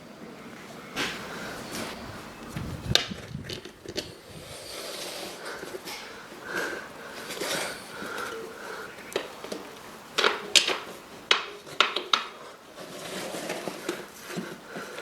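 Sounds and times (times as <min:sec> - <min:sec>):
scraping and rustling: 0:00.5 - 0:15.0.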